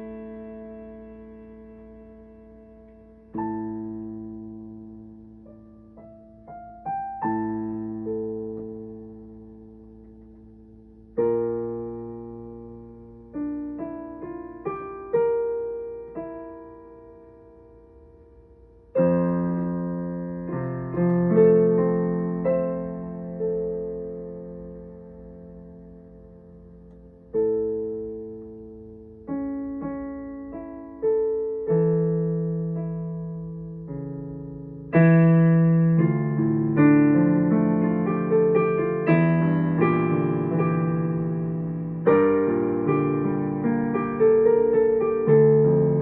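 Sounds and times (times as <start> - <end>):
solo piano playing slowly: 0.0 - 46.0.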